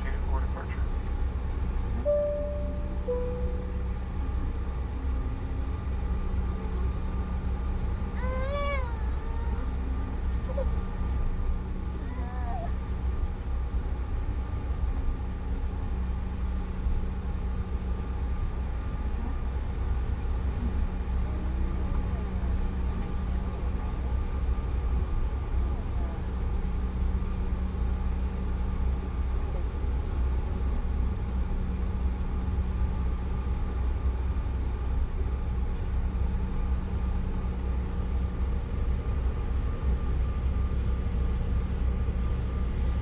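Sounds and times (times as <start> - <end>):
airliner cabin rumble and hum: 0.0 - 43.0.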